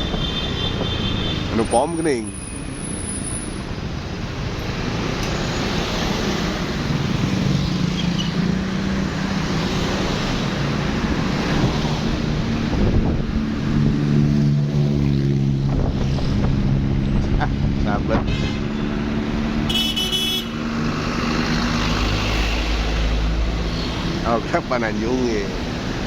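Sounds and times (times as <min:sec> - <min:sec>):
road noise: 0:00.0 - 0:26.0
vehicle engines humming: 0:00.0 - 0:26.0.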